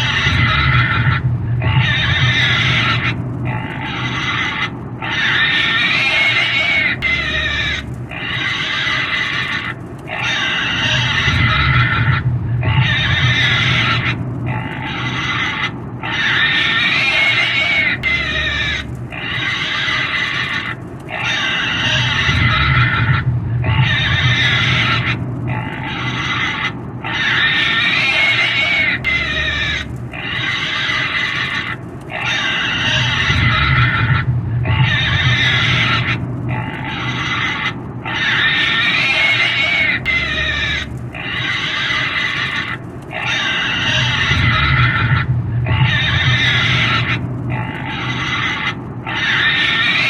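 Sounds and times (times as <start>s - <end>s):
pig squealing and screaming: 0.0s - 50.0s.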